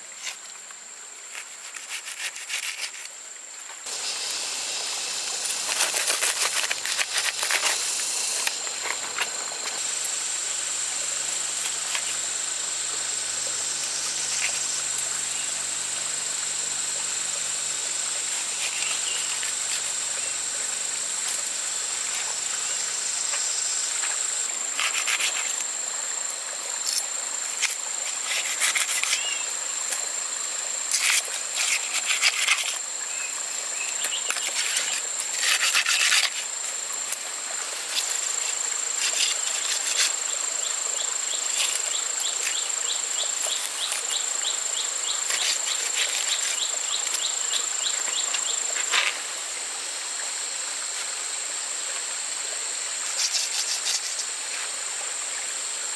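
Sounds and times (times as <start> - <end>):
insects droning in chorus: 0.0 - 55.9
quick ticking insect calls: 0.0 - 55.9
buzzing insect chirps: 1.6 - 55.9.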